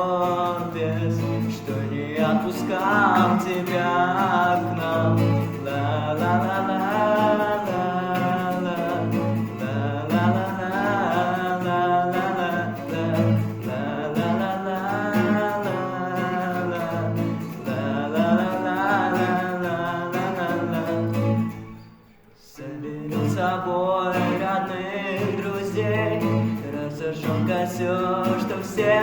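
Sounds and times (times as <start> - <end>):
person singing: 0.0 - 21.4, 22.5 - 29.0
guitar accompaniment: 0.0 - 29.0.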